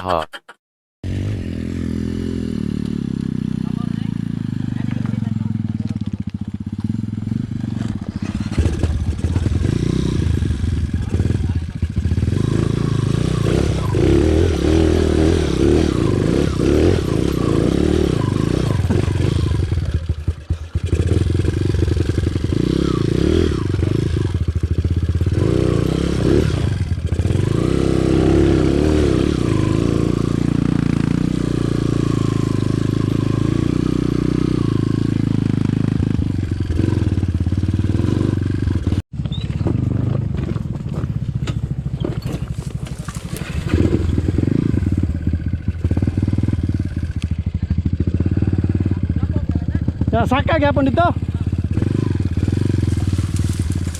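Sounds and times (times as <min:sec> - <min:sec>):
motorcycle engine revving: 0:01.0 - 0:53.9.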